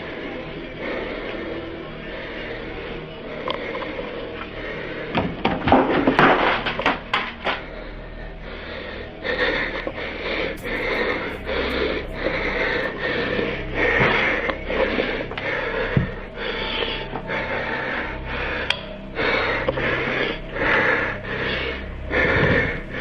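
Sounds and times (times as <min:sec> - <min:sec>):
heavy rasping breathing: 0:00.0 - 0:23.0.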